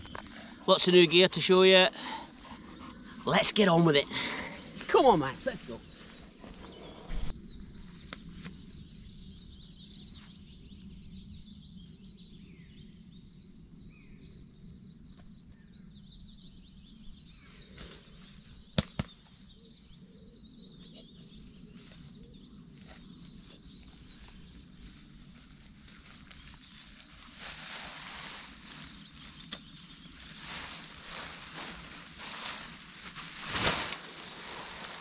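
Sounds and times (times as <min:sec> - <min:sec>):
birds singing and chirping: 0:00.0 - 0:35.0.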